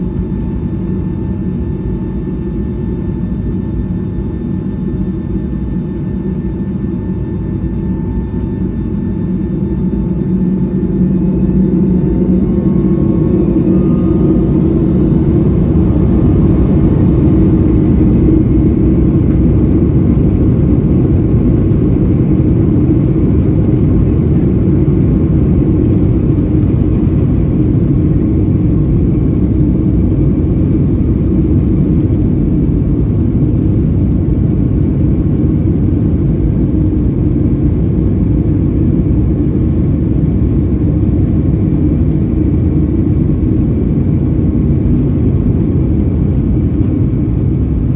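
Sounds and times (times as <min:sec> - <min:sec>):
jet engine and airflow noise in cabin: 0:00.0 - 0:47.9.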